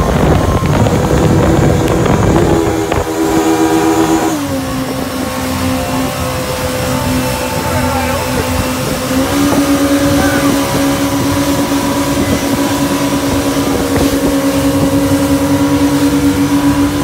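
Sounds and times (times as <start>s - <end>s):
boat engine drone: 0.0s - 17.0s
rushing water and wind: 0.0s - 17.0s.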